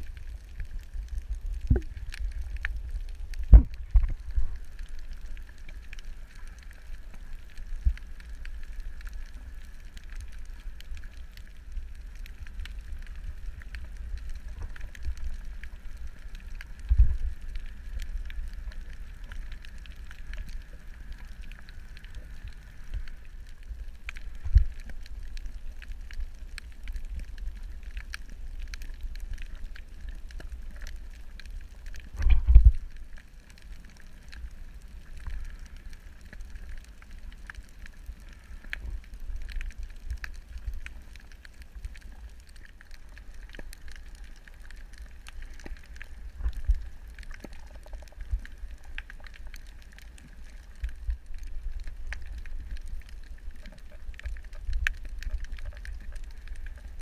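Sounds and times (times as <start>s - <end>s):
clicks and crackle: 0.0s - 57.0s
low underwater rumble: 0.0s - 57.0s.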